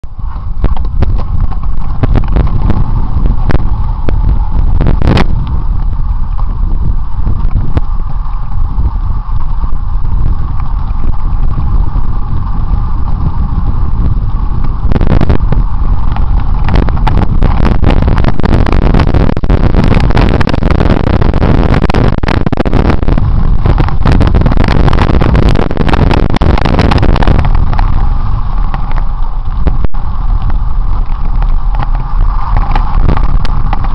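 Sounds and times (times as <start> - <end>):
bike rattles and knocks: 0.0 - 33.9
steady low rumble: 0.0 - 33.9
wind buffeting microphone: 0.0 - 33.9.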